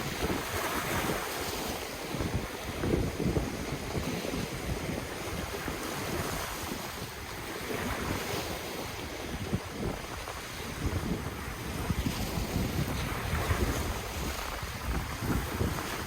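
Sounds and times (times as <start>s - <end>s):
ocean waves washing ashore: 0.0s - 16.0s
wind buffeting microphone: 0.0s - 16.0s.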